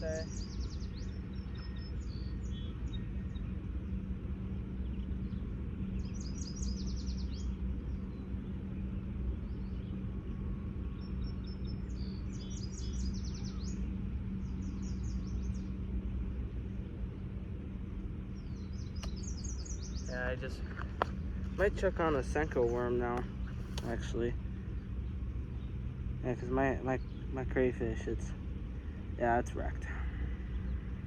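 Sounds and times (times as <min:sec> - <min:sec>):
low hum and rumble: 0:00.0 - 0:31.0
songbirds trilling: 0:00.0 - 0:31.0.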